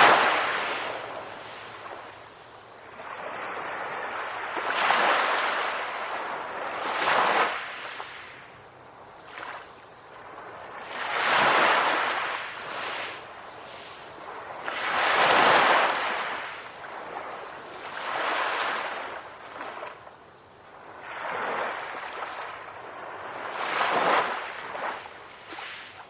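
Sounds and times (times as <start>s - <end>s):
ocean waves washing onto shore: 0.0s - 26.0s.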